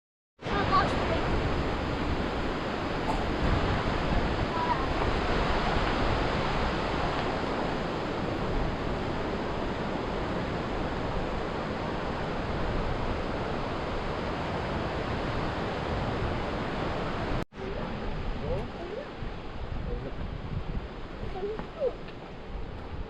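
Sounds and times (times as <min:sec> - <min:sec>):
steady rushing noise: 0:00.4 - 0:23.0.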